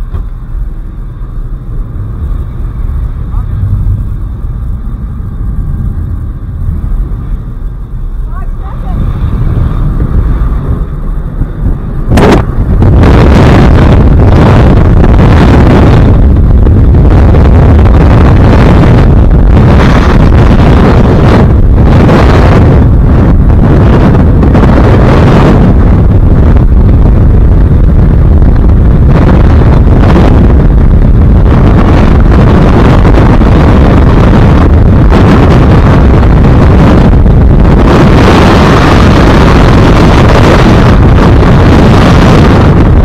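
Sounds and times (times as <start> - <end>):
wind blasting on microphone: 0.0 - 43.0.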